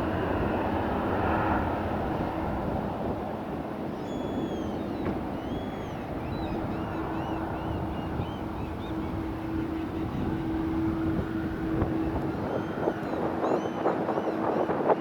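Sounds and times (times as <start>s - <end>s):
jet engine rumble: 0.0s - 15.0s
wind buffeting microphone: 0.0s - 15.0s.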